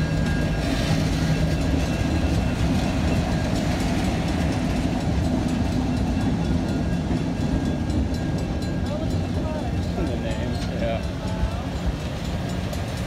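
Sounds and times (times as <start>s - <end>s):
diesel locomotive engine: 0.0s - 13.0s
train wheels clicking over rails: 0.0s - 13.0s.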